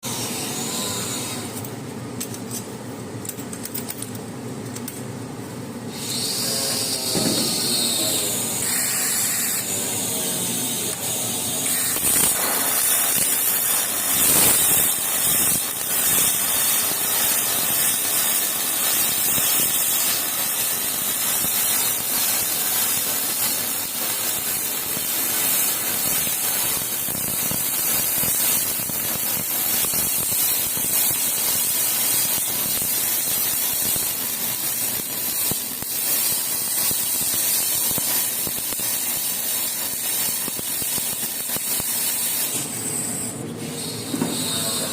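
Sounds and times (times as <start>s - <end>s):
welding arc hissing: 0.0s - 1.7s, 5.8s - 44.9s.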